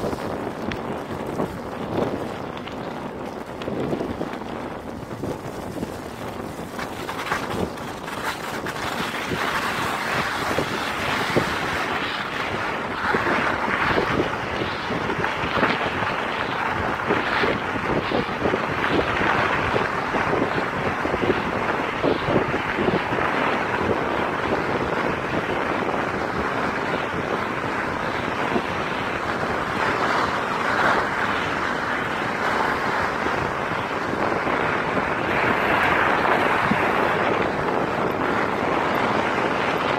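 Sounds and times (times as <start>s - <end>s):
small crackles: 0.0s - 39.9s
wind rushing over microphone: 0.0s - 39.9s.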